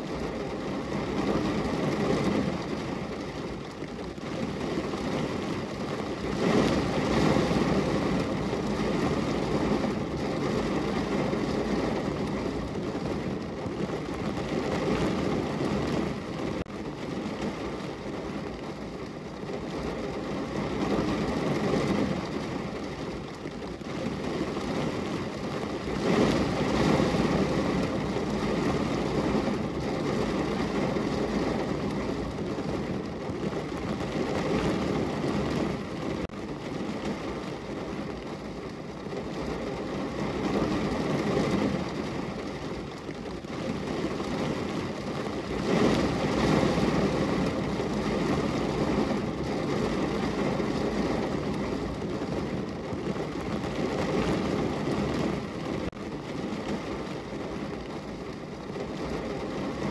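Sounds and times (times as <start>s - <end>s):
rain against a window: 0.0s - 59.9s.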